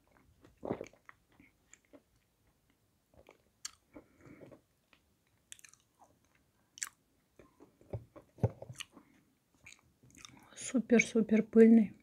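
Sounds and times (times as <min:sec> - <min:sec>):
crunching and chewing clay: 0:00.0 - 0:11.1.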